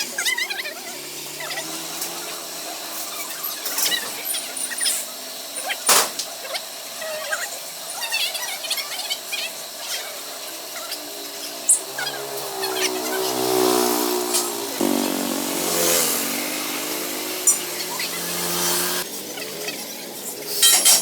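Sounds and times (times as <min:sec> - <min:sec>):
small engine running: 0:00.0 - 0:20.4.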